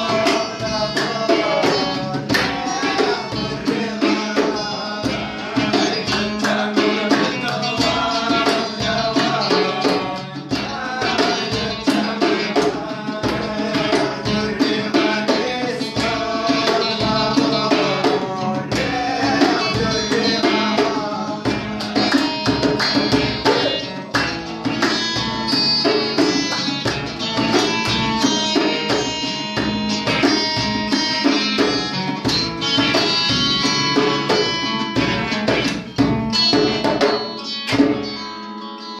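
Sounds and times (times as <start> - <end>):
hand clapping: 0.0 - 4.6, 5.7 - 38.2
acoustic guitars: 0.0 - 39.0
hand drum: 0.0 - 39.0.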